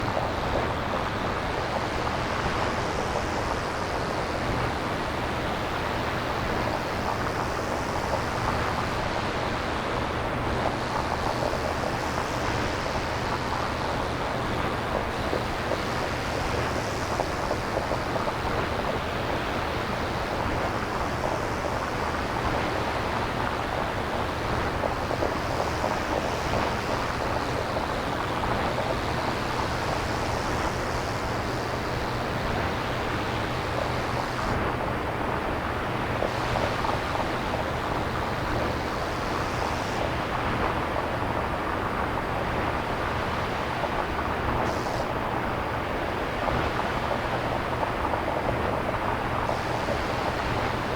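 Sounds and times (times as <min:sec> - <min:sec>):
synthesized rushing hiss: 0:05.2 - 0:09.0, 0:10.7 - 0:35.0, 0:35.6 - 0:47.9, 0:49.0 - 0:50.9.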